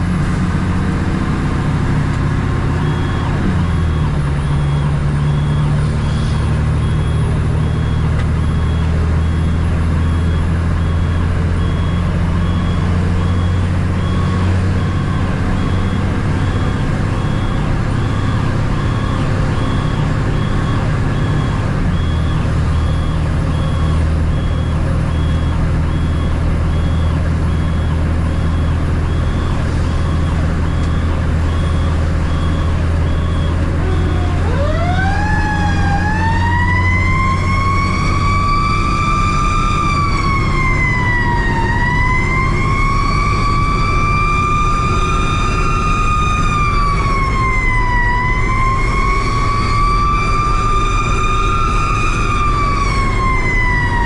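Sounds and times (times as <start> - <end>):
fire truck engine droning: 0.0 - 54.0
siren wailing: 0.0 - 54.0.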